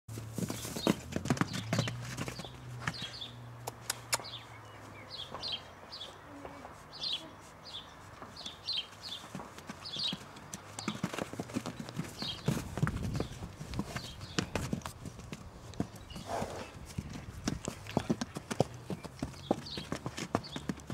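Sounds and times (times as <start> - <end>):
hooves on dirt: 0.1 - 20.9.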